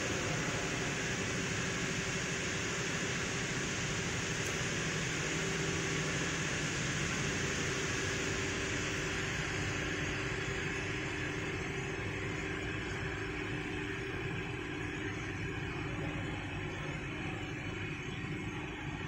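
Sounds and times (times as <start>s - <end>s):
pump machinery hum and hiss: 0.0s - 19.0s.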